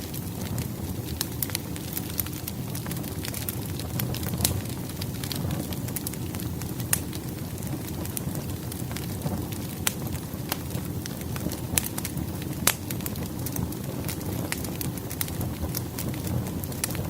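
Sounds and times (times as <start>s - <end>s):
firewood crackling and popping: 0.0s - 17.0s
low rush of flames: 0.0s - 17.0s.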